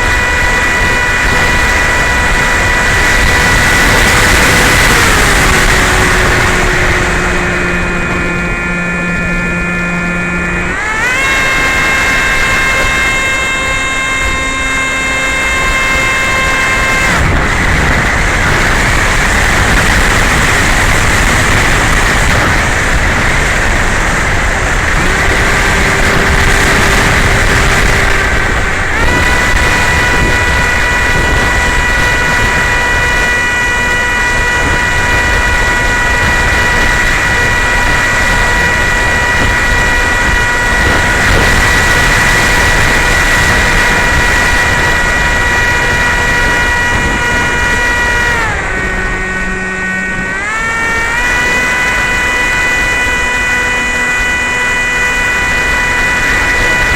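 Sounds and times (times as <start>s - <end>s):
heavy wind rush: 0.0s - 56.9s
model plane motor whining: 0.0s - 56.9s.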